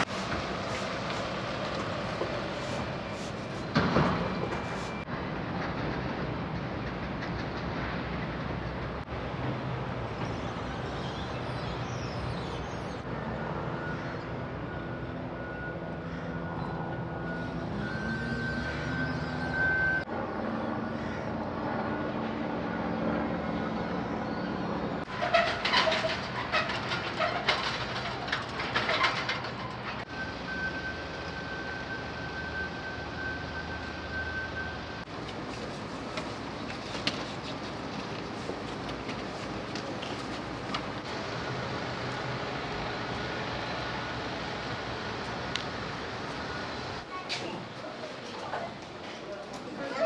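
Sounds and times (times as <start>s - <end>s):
electric train rumbling: 0.0s - 20.1s, 24.8s - 49.9s.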